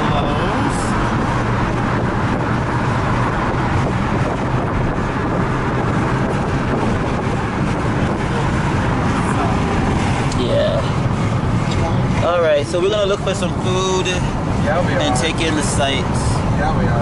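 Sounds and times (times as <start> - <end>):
car road noise from inside: 0.0 - 17.0.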